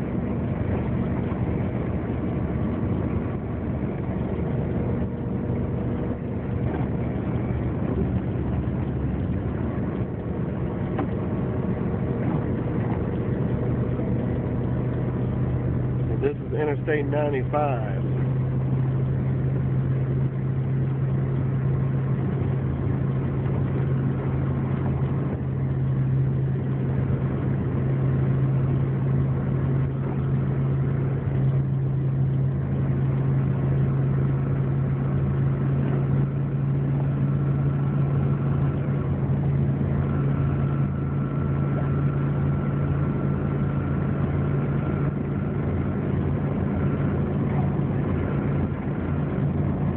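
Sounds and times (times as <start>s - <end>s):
car driving from inside cabin: 0.0s - 49.9s.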